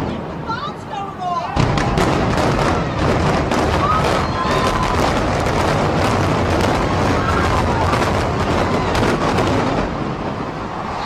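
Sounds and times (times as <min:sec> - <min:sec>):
demolition charges banging: 0:01.5 - 0:11.0
heavy low rumble: 0:01.6 - 0:11.0.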